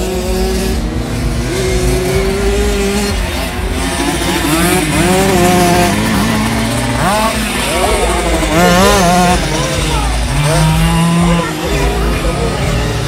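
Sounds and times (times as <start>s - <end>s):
mopeds racing engines revving: 0.0s - 13.0s.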